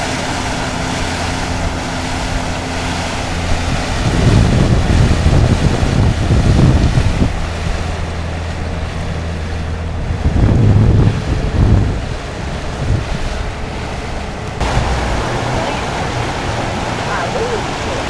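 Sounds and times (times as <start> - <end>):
boat engine humming: 0.0 - 18.0
choppy water: 0.0 - 18.0
wind buffeting microphone: 0.0 - 18.0.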